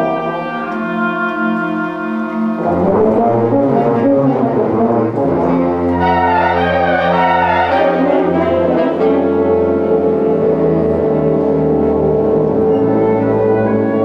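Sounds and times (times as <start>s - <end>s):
concert band playing held chords: 2.4s - 13.8s.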